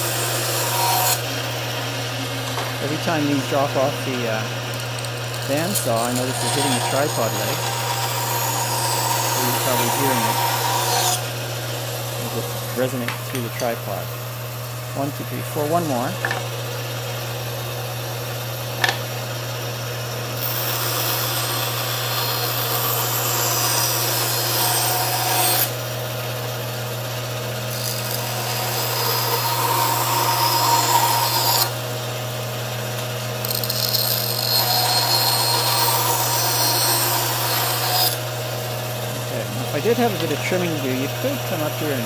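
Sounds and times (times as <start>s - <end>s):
band saw cutting wood: 0.0s - 42.0s.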